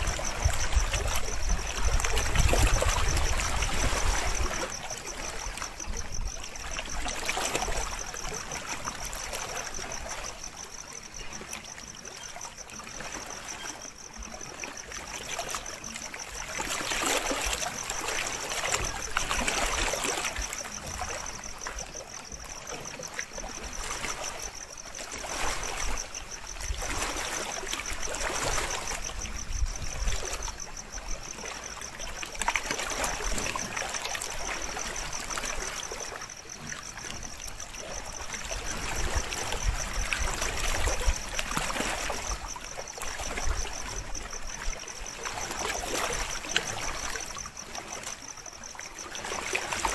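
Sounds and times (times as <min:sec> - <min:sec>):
lake water lapping at shore: 0:00.0 - 0:49.9.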